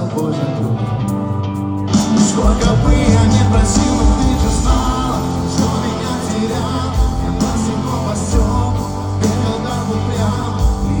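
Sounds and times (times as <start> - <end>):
backing track with bass and drums: 1.7 - 11.0.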